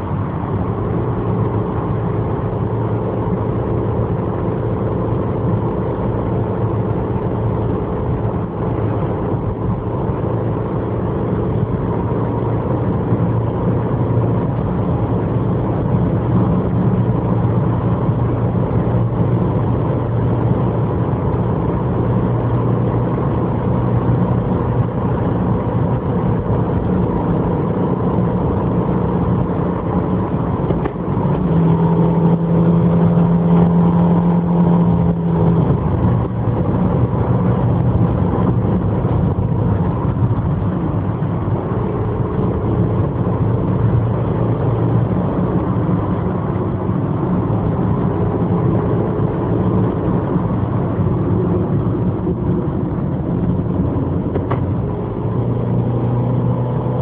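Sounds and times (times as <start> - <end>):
car engine running: 0.0 - 57.0
tyre and road noise: 0.0 - 57.0.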